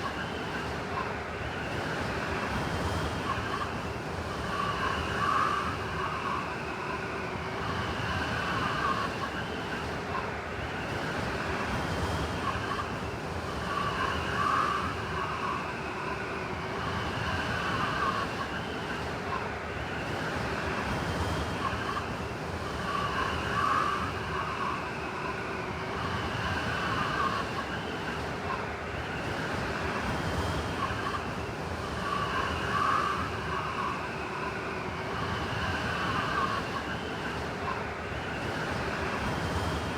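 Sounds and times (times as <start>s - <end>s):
howling blizzard wind: 0.0s - 39.9s.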